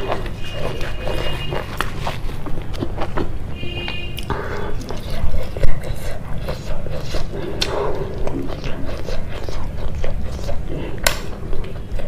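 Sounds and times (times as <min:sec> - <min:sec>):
person chewing with wet clicks: 0:00.0 - 0:12.0
steady low hum: 0:00.0 - 0:12.0.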